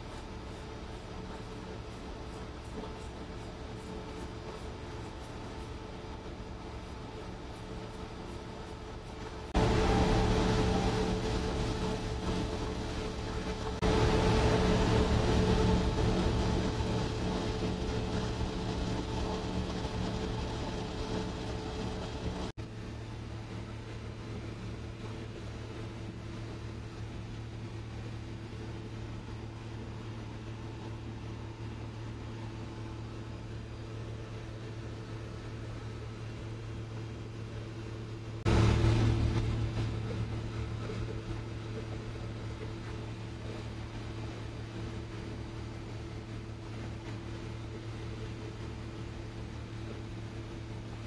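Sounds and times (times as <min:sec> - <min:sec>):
engine room machinery hum: 0:00.0 - 0:51.0.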